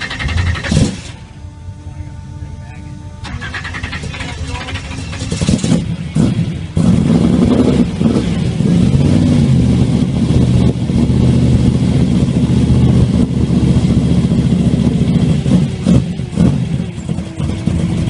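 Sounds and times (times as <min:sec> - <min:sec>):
loud car engine idling: 0:00.0 - 0:18.0.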